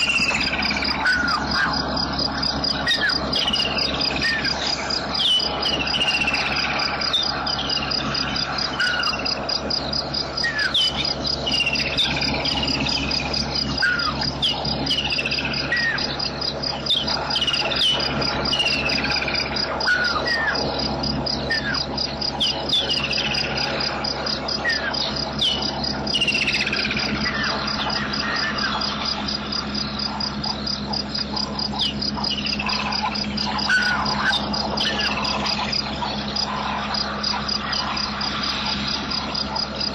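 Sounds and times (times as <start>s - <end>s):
insect trill: 0.0s - 39.9s
whistled bird calls: 0.0s - 39.9s.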